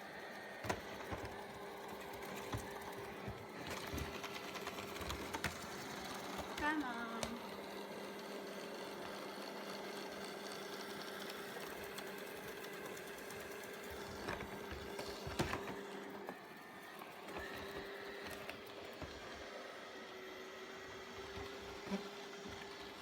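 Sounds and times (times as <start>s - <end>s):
robot vacuum motor hum: 0.0s - 23.0s.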